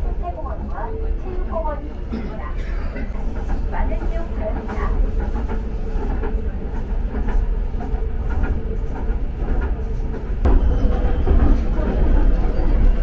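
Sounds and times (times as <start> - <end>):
light rail car rumbling: 0.0 - 13.0.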